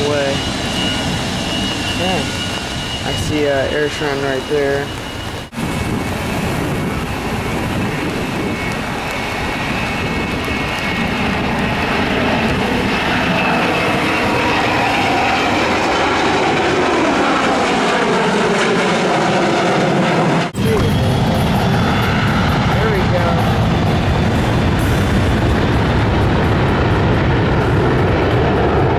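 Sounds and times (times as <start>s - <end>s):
jet airliner engines rushing: 0.0s - 28.9s.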